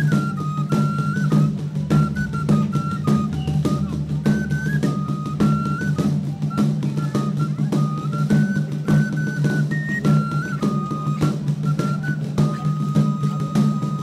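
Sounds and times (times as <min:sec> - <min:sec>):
high simple melody: 0:00.0 - 0:13.9
steady drum beat: 0:00.0 - 0:14.0.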